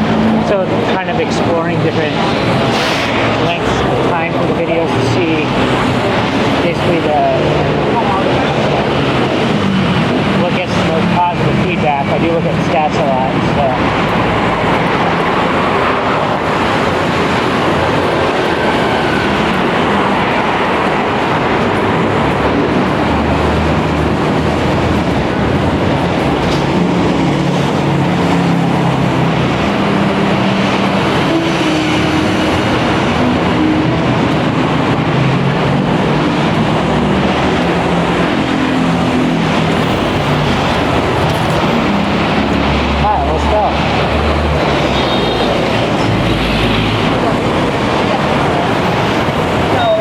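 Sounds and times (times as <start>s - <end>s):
passing vehicles: 0.0s - 50.0s.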